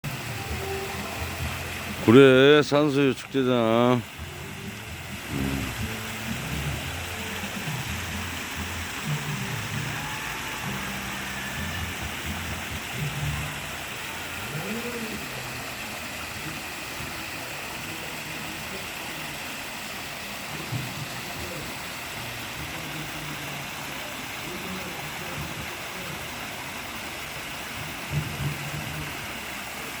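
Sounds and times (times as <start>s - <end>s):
faint low voices: 0.1s - 30.0s.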